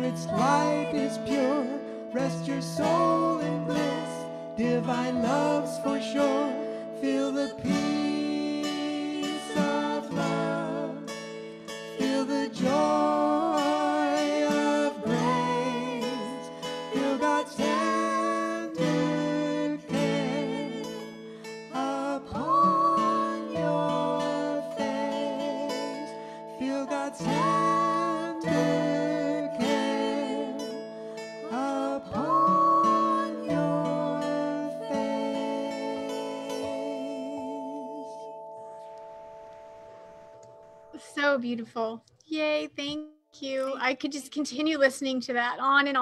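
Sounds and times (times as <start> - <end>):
man and woman singing: 0.0 - 38.3
acoustic guitar strumming: 0.0 - 41.5.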